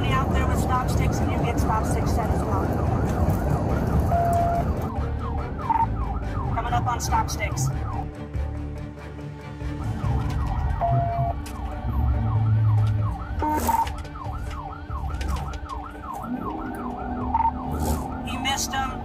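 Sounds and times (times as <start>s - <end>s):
vehicle driving rumble: 0.0s - 8.1s, 9.6s - 19.0s
police siren yelping: 0.0s - 8.2s, 9.6s - 19.0s.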